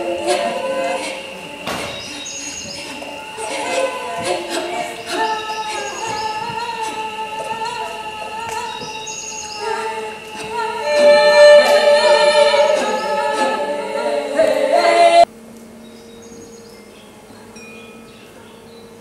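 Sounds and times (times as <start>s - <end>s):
layered female singing: 0.0s - 15.3s
faint steady hum: 0.0s - 19.0s.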